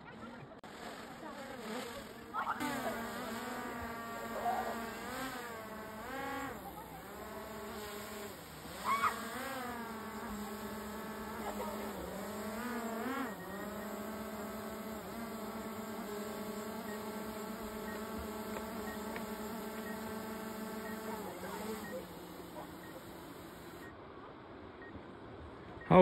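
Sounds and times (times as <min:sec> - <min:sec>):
drone propellers buzzing: 0:00.7 - 0:23.9.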